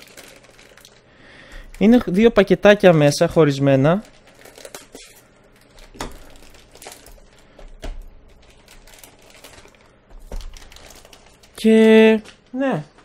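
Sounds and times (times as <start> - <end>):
thin plastic crinkling: 0.0 - 12.6.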